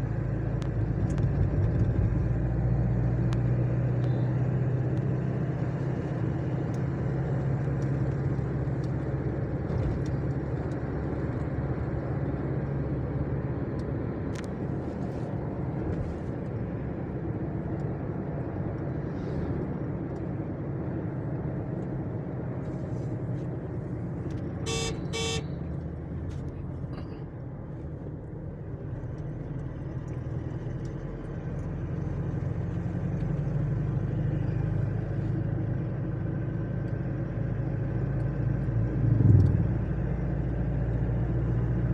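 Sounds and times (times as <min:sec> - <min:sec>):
tyre and road noise: 0:00.0 - 0:41.9
vehicle engine hum: 0:00.0 - 0:41.9.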